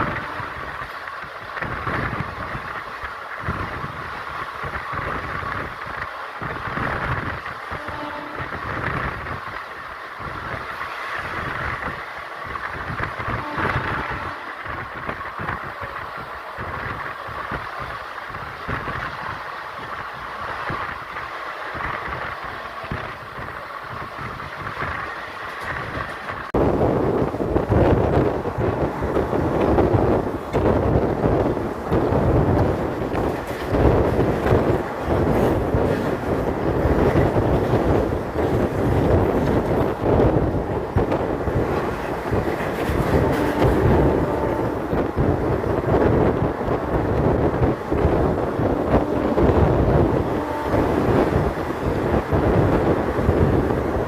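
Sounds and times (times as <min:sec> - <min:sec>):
train coach rumbling and rattling: 0:00.0 - 0:54.0
wheels thumping on track: 0:00.0 - 0:54.0
wind buffeting microphone: 0:00.0 - 0:54.0.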